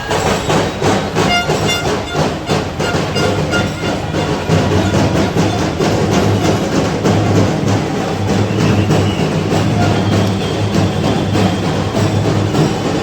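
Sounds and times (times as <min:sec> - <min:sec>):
procession music with drums: 0:00.0 - 0:13.0.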